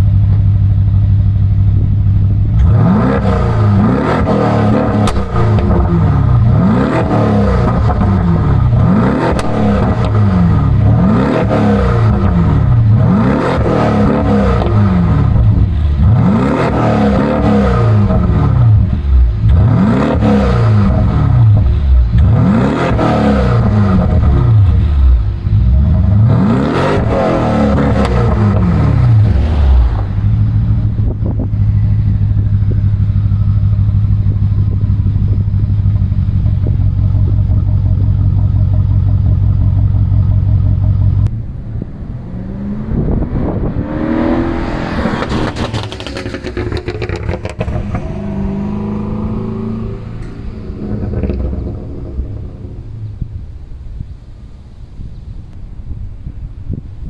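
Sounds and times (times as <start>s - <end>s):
exhaust crackles and pops: 0.0s - 42.1s, 45.0s - 48.4s, 49.2s - 56.4s
car engine idling and revving: 0.0s - 57.0s.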